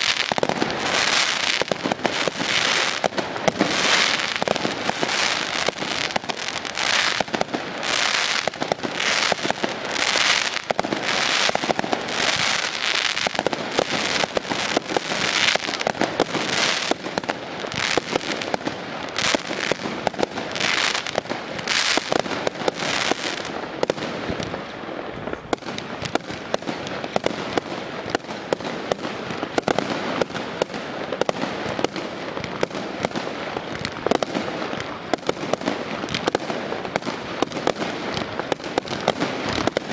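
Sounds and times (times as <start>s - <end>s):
fireworks hissing and crackling: 0.0s - 39.9s.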